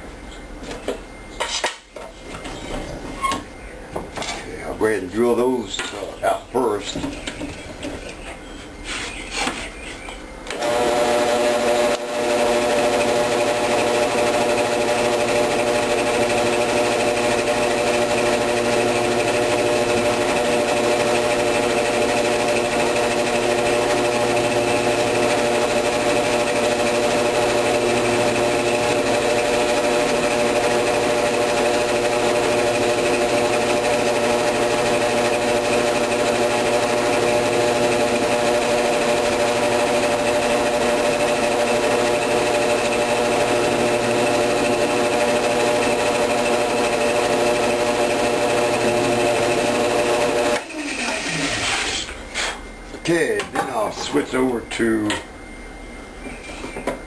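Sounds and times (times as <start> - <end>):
drill press humming whine: 7.0 - 57.0.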